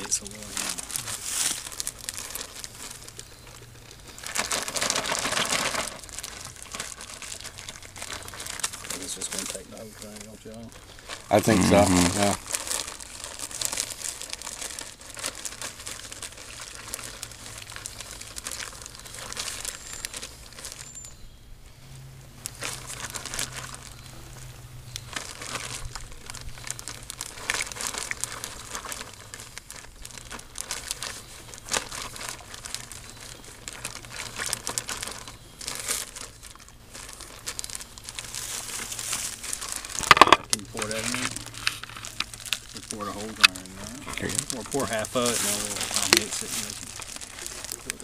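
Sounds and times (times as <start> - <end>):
plastic bag crinkling: 0.0 - 21.2, 22.3 - 48.0.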